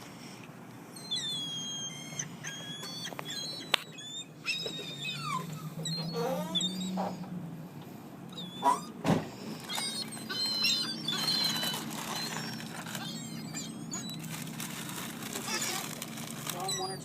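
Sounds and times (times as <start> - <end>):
birds chirping and squawking: 0.2 - 17.0.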